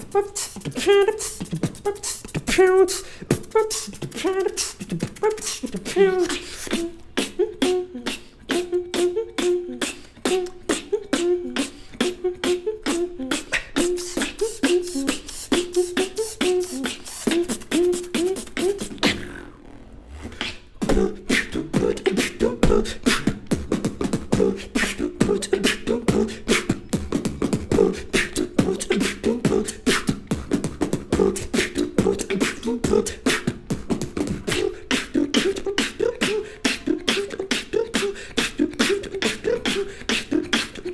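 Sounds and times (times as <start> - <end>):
beatbox mouth percussion: 0.0 - 40.9
pitched vocal line: 0.0 - 40.9.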